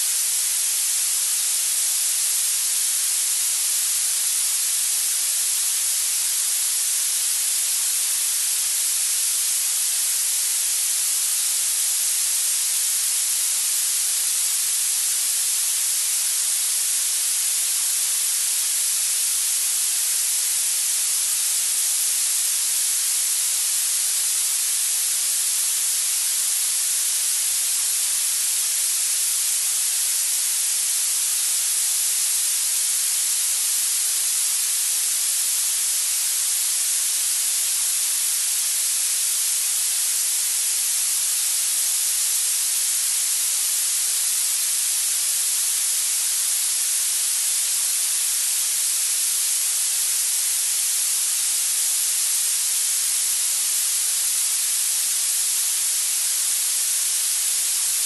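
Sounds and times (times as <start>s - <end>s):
steady high-pitched hiss: 0.0s - 58.0s.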